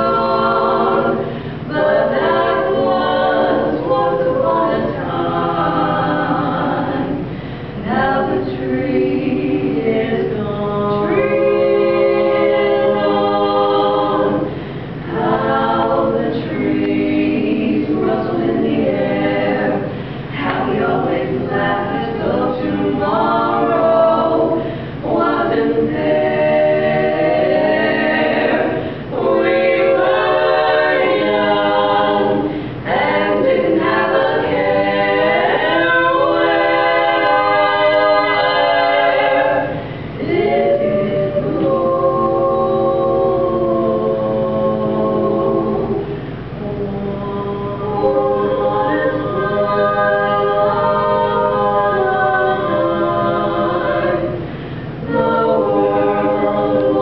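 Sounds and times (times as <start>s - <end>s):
women singing a cappella harmony: 0.0s - 57.0s.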